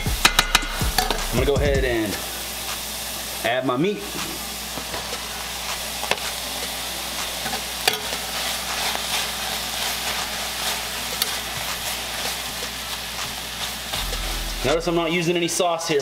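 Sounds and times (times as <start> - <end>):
food sizzling in a skillet: 0.0 - 16.0.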